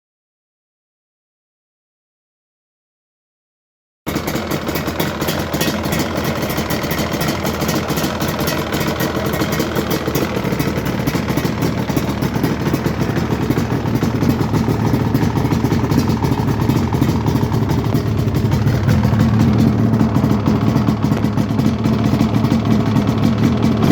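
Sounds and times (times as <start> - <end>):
two-stroke engine idling: 4.1 - 23.9.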